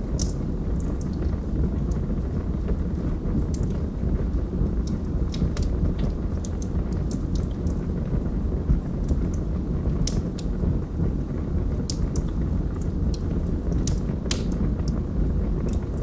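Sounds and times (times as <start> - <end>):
fire rumbling: 0.0 - 16.0
wood crackling and popping: 0.0 - 16.0.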